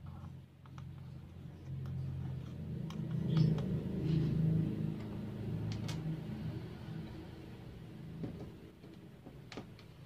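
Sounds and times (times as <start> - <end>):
low motor rumble: 0.0 - 9.3.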